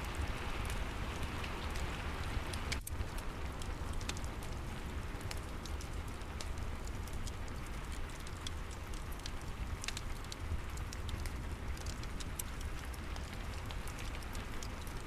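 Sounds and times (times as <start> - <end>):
fireplace crackling: 0.0 - 15.0
steady rain: 0.0 - 15.0.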